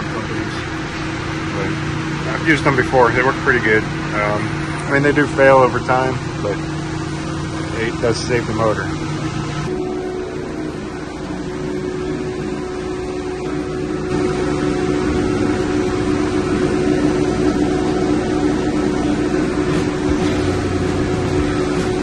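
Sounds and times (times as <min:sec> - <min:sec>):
machinery drone: 0:00.0 - 0:22.0.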